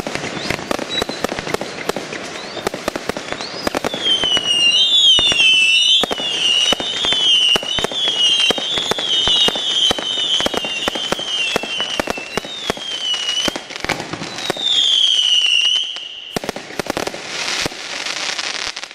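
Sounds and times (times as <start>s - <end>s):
fireworks bangs and crackles: 0.0s - 18.9s
high whistles: 0.2s - 16.4s.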